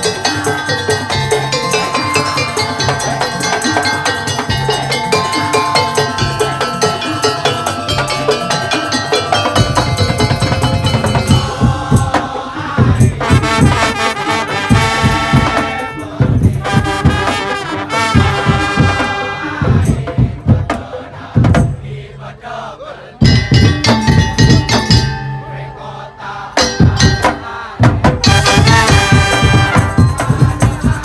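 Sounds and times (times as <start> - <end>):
wind instrument melody: 0.0 - 12.2, 12.9 - 20.0, 23.7 - 31.0
thumping drums and percussion: 0.0 - 31.0.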